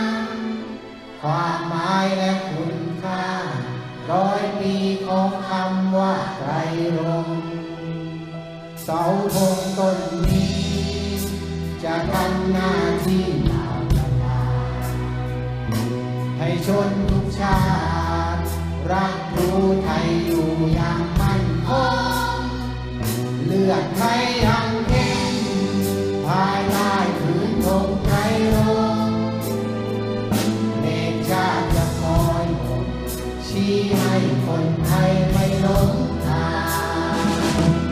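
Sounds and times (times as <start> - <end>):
children's choir singing: 0.0 - 37.9
orchestra with violins: 0.0 - 37.9.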